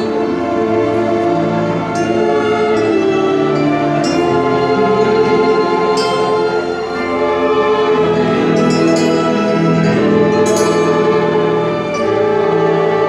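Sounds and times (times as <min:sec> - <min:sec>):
orchestra playing sustained chords: 0:00.0 - 0:13.0.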